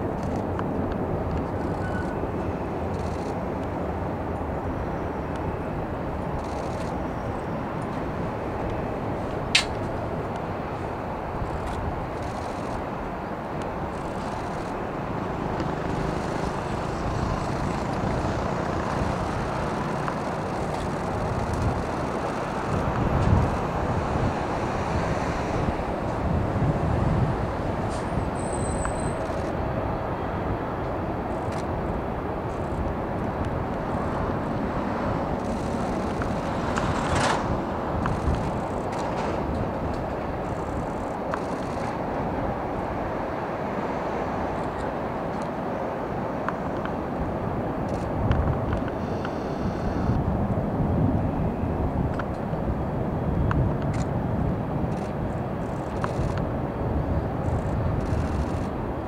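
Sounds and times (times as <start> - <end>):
distant jet engines rumbling: 0.0 - 30.2, 30.8 - 59.0.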